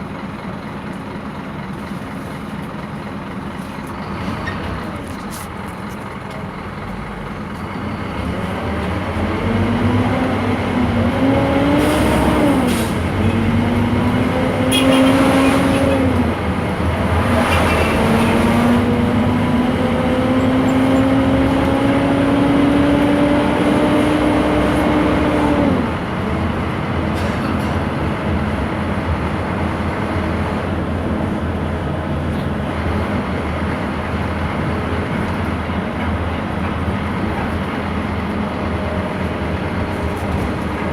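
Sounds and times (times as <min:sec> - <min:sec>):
bus accelerating with engine whine: 0:00.0 - 0:40.9.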